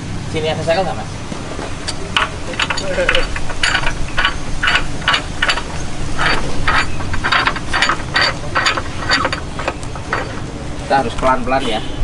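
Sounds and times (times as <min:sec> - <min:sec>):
winch drum ratcheting rasps: 0:01.7 - 0:11.4.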